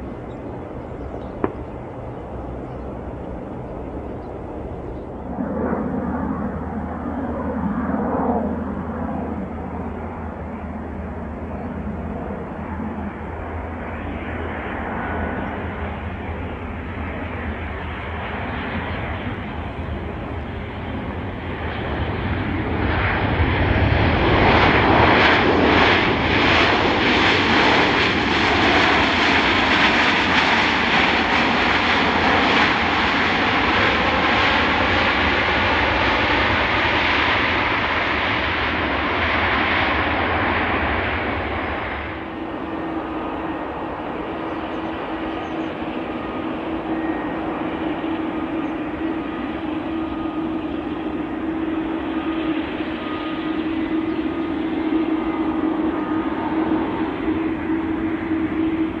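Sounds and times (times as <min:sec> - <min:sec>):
jet engines on approach: 0:00.0 - 0:59.0
jet roar on runway: 0:00.0 - 0:59.0.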